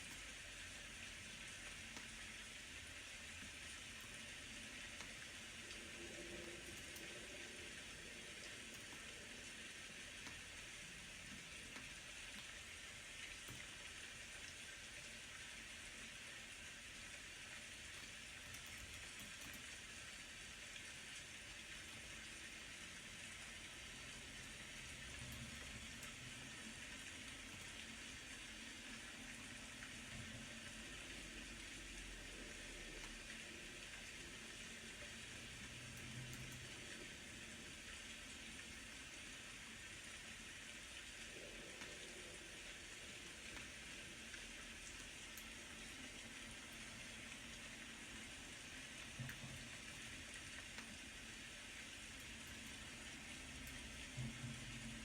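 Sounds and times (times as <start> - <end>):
faint rain: 0.0 - 55.0.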